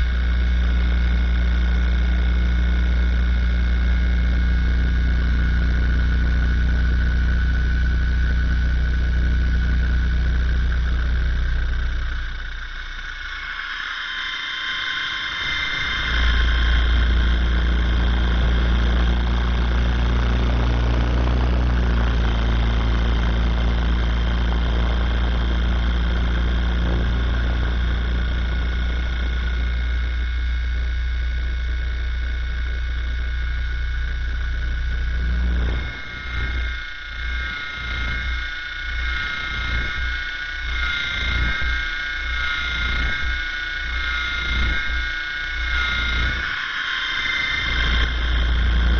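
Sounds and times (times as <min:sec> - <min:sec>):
deep rumble: 0:00.0 - 0:48.9
helicopter rotor whine: 0:04.0 - 0:48.9.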